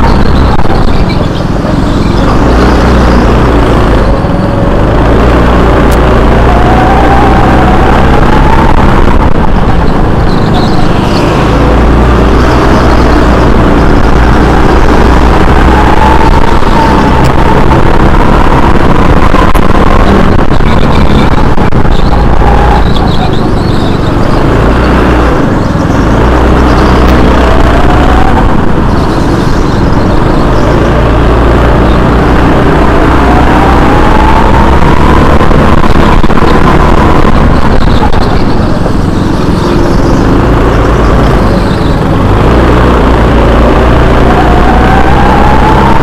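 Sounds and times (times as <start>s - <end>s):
go-kart engine racing: 0.0s - 46.0s.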